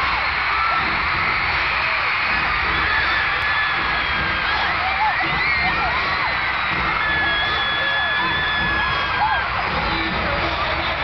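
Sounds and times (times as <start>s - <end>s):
crowd screaming and cheering: 0.0s - 11.0s.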